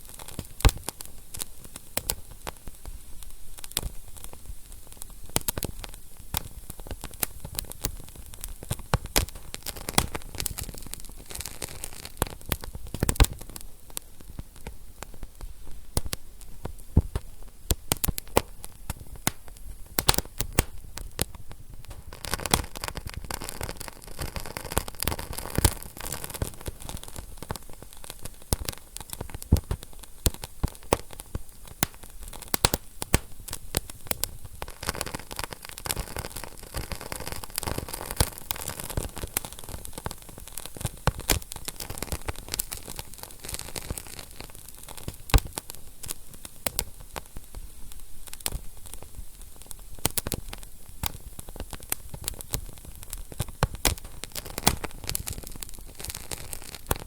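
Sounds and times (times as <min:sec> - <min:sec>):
flames hissing: 0:00.0 - 0:57.0
wood fire crackling: 0:00.0 - 0:57.0.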